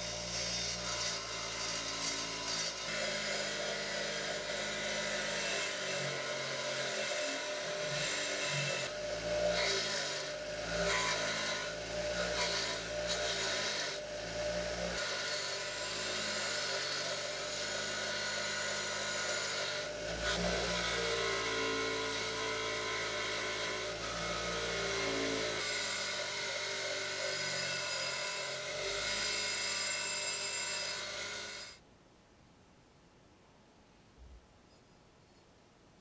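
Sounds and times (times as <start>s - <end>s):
bench grinder motor hum: 0.0s - 31.8s.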